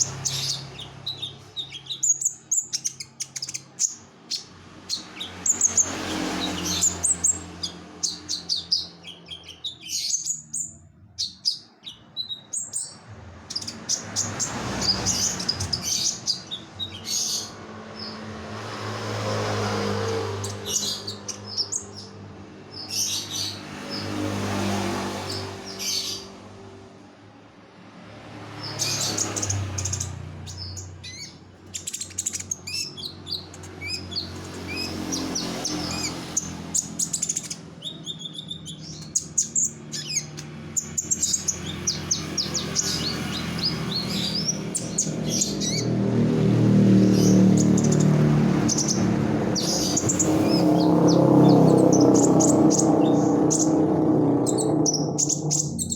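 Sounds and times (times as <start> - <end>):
songbird chirps and trills: 0.0 - 18.3, 19.1 - 26.7, 28.5 - 55.9.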